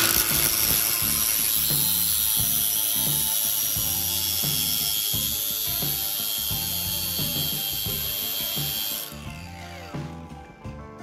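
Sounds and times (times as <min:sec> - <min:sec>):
angle grinder grinding metal: 0:00.0 - 0:10.3.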